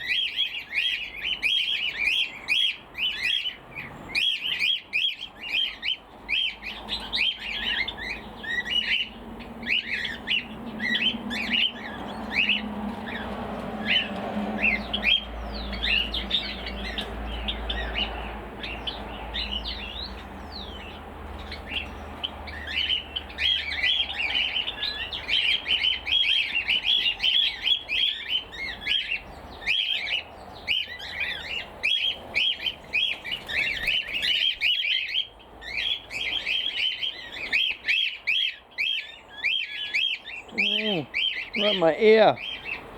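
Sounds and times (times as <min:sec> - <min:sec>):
cockatiels squawking: 0:00.0 - 0:42.9.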